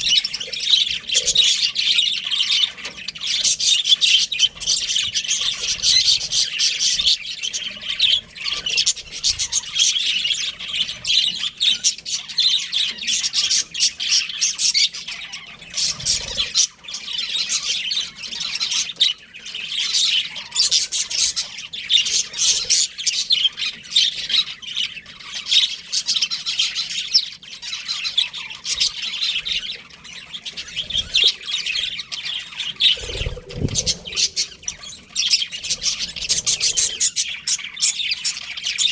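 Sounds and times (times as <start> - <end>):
budgerigars chirping and chattering: 0.0 - 38.9.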